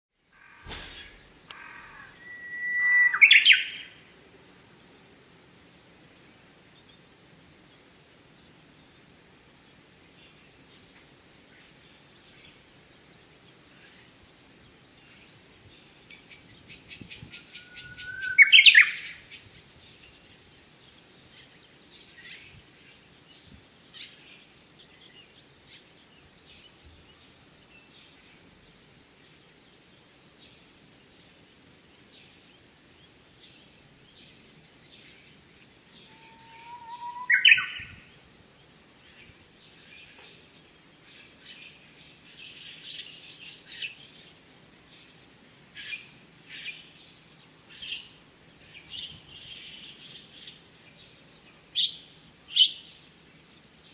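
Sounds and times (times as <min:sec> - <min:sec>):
faint chirps of other birds: 0:00.2 - 0:53.9
songbird singing: 0:00.2 - 0:53.9.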